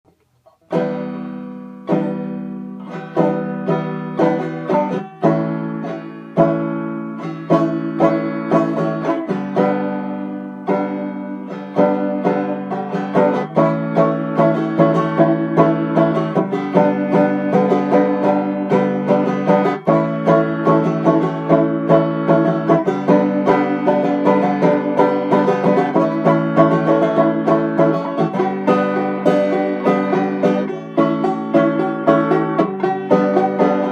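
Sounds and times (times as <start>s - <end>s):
banjo picking: 0.1s - 33.9s.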